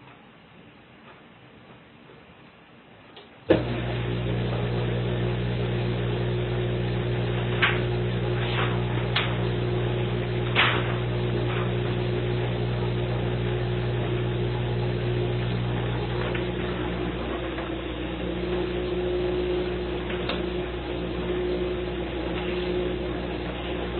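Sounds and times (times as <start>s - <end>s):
dishwasher humming loudly: 3.5s - 23.9s.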